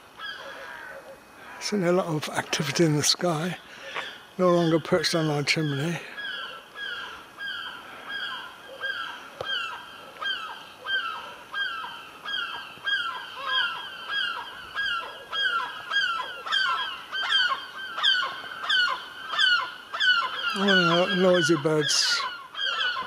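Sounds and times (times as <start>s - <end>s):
seagulls calling: 0.0s - 23.0s.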